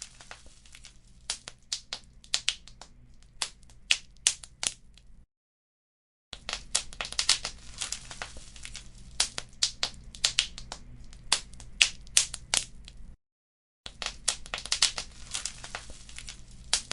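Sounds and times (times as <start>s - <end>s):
fire crackling and popping: 0.0s - 5.2s, 6.4s - 13.2s, 13.9s - 16.9s.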